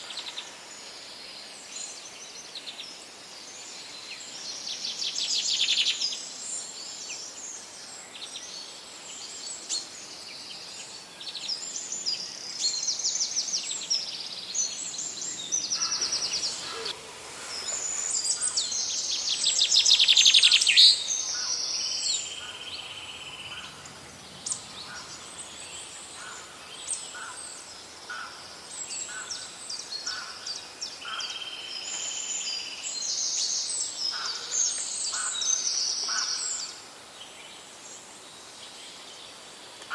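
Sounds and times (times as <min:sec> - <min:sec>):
birds singing in forest: 0:00.0 - 0:39.9.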